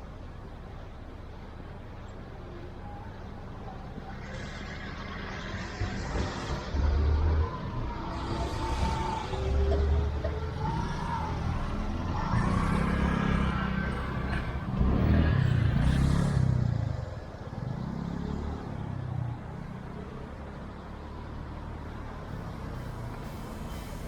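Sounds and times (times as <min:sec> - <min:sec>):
car engines passing: 0:00.0 - 0:24.0.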